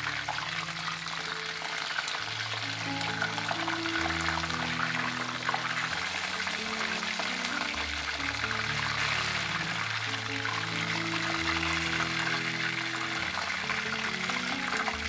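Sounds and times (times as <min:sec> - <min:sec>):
background music low notes: 0:00.0 - 0:15.0
sizzling deep-frying oil: 0:00.0 - 0:15.0.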